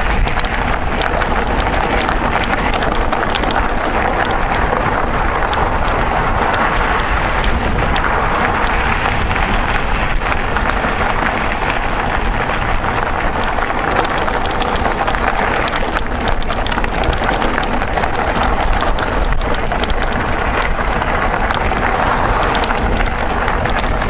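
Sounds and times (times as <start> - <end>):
bike tyres on gravel: 0.0 - 24.0
small clicks and rattles: 0.0 - 24.0.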